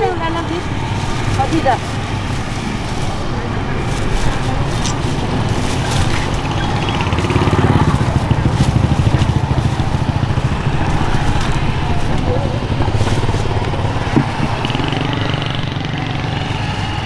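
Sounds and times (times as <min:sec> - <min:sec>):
motor scooter engine passing: 0:00.0 - 0:17.0
street market noise: 0:00.0 - 0:17.0.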